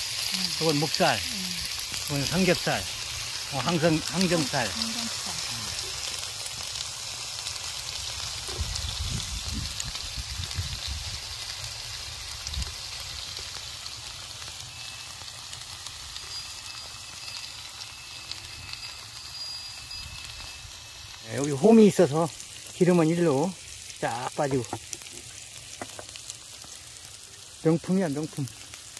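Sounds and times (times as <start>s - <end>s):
pork sizzling on stone griddle: 0.0s - 28.9s.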